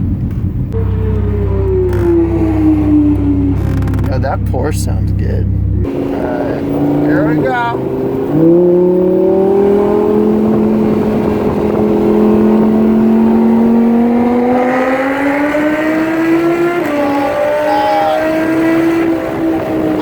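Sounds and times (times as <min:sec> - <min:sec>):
sports car engine accelerating: 0:00.0 - 0:20.0.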